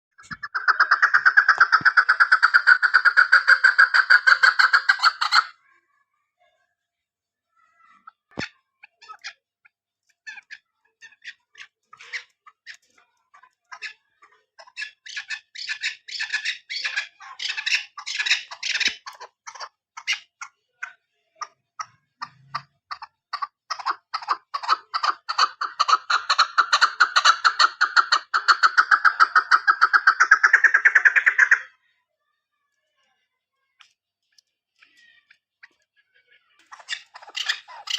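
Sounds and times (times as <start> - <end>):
partridge clucking calls: 0.1 - 5.6, 8.0 - 31.8, 33.8 - 37.9.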